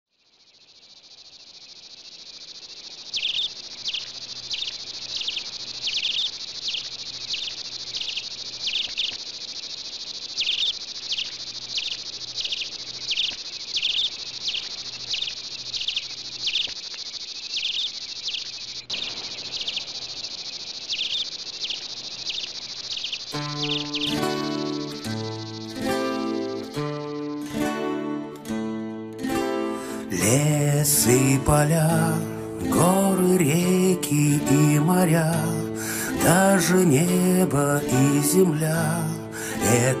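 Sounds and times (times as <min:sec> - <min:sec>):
insects chirring: 0:00.1 - 0:40.0
loud insect chirps: 0:00.1 - 0:40.0.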